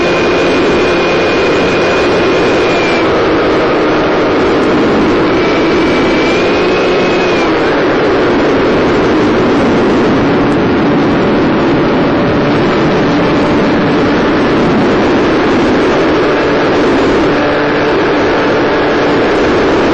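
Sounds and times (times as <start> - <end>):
electric motor and propeller: 0.0 - 19.9
wind rushing: 0.0 - 19.9.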